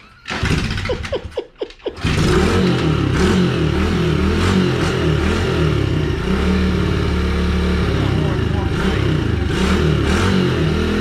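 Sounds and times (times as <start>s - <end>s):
small engine revving unevenly: 2.0s - 11.0s.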